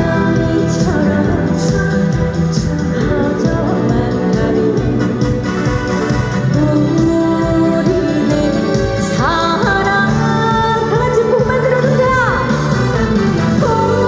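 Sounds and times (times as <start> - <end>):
loud backing music: 0.0 - 14.0
woman singing: 0.0 - 14.0.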